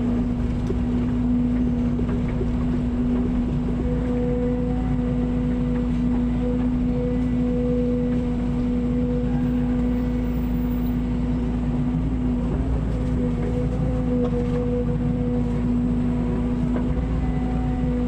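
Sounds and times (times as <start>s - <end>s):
engine droning hum: 0.0s - 18.0s.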